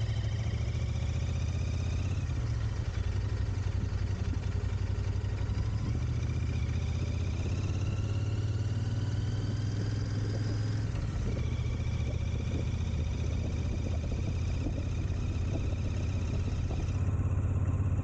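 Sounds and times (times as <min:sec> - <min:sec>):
vehicle low rumble: 0:00.0 - 0:18.0.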